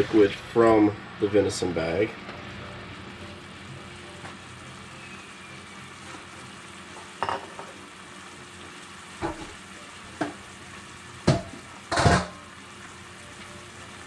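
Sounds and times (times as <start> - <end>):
mushrooms sizzling in a skillet: 0.0 - 14.0.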